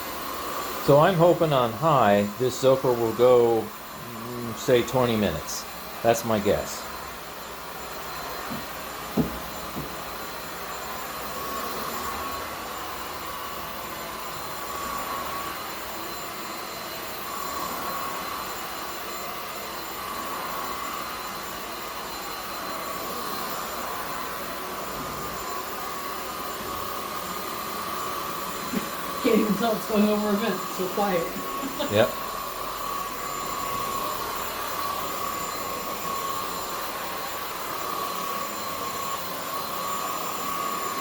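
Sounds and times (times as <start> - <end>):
stick vacuum running: 0.0 - 41.0.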